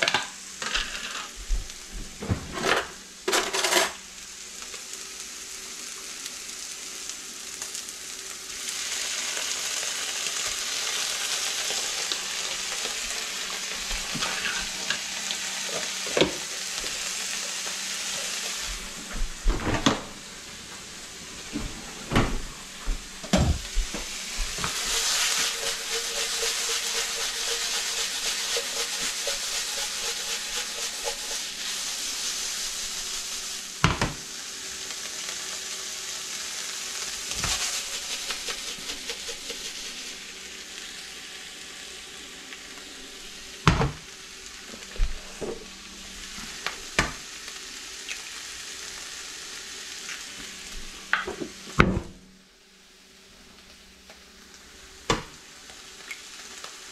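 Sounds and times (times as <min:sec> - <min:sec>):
food sizzling in a skillet: 0:02.9 - 0:19.5, 0:22.4 - 0:51.8, 0:52.9 - 0:56.9.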